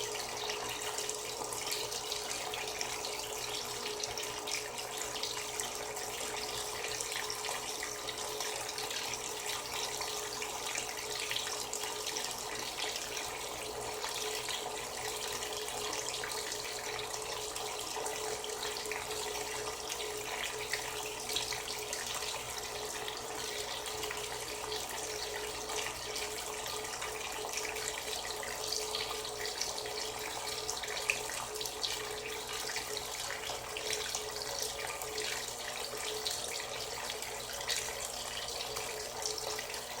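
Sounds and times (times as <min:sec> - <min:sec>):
water running into washer tub: 0:00.0 - 0:40.0.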